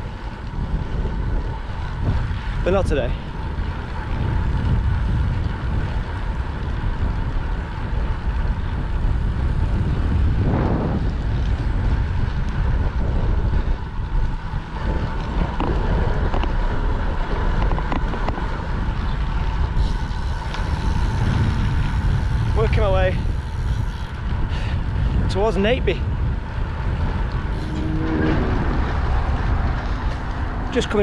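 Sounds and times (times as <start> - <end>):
road noise: 0.0 - 31.0
wind rushing over microphone: 0.0 - 31.0.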